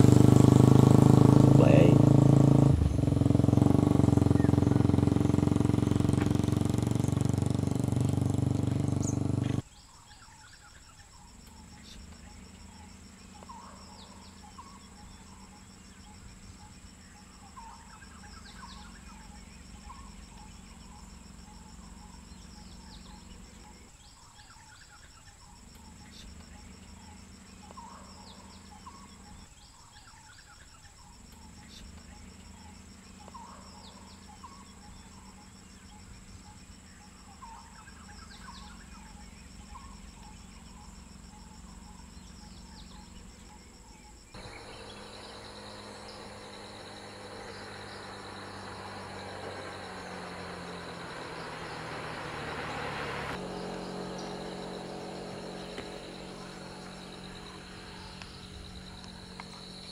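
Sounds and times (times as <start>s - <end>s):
vehicle engine running: 0.0s - 9.9s, 11.1s - 30.0s, 30.8s - 59.9s
insect chirps: 2.7s - 59.9s.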